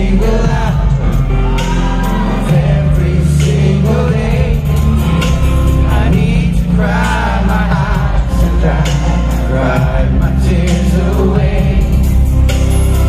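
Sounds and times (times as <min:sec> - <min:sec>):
men singing live: 0:00.0 - 0:12.4
pop band with heavy bass: 0:00.0 - 0:13.0.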